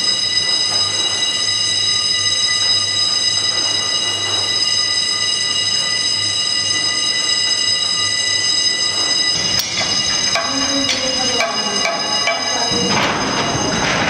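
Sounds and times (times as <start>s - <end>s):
high-pitched alarm tone: 0.0s - 14.0s.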